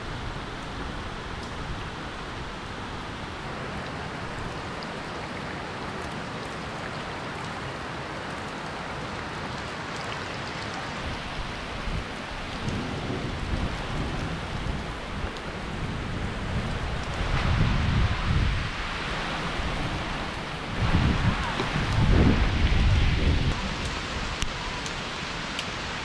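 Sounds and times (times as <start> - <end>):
heavy rain on water and rocks: 0.0 - 26.0.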